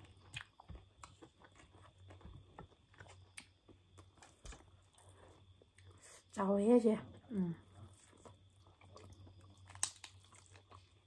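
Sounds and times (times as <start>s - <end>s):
people chewing: 0.0s - 6.2s, 7.2s - 11.0s.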